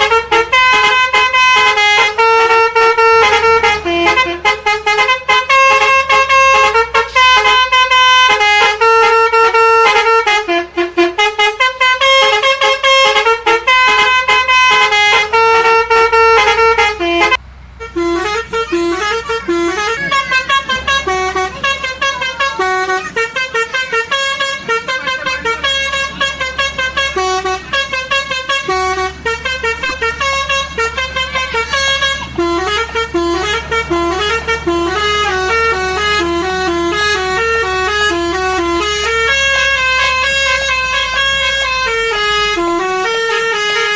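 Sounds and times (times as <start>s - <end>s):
multi-tone bus horn melody: 0.0s - 43.9s.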